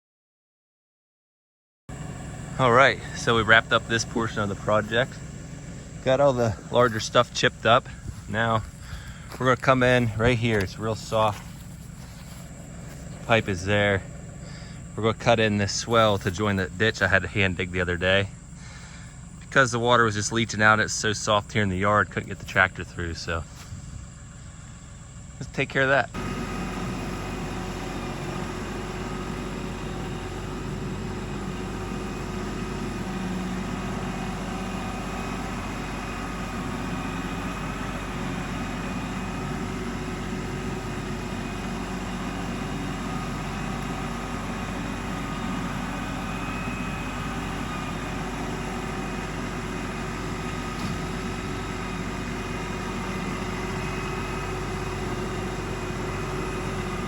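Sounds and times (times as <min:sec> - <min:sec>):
tractor diesel engine running: 0:01.9 - 0:57.0.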